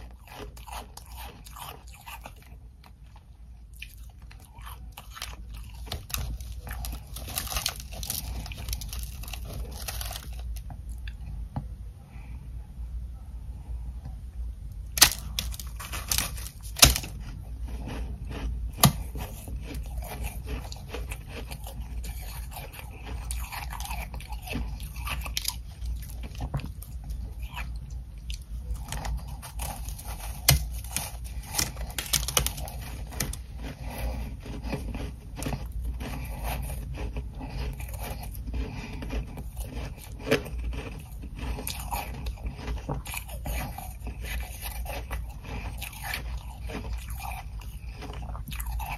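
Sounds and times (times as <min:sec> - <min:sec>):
crunching and chewing ice: 0:00.0 - 0:11.4, 0:14.8 - 0:48.9.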